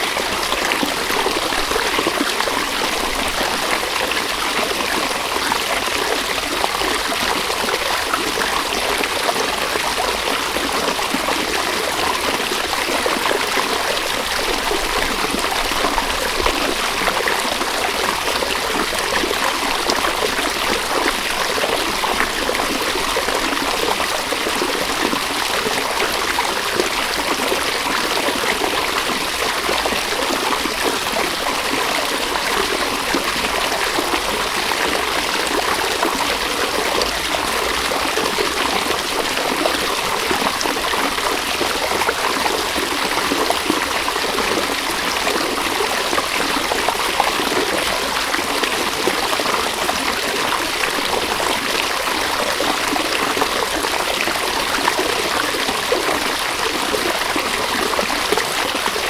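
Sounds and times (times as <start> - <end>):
river water over stones: 0.0 - 59.0.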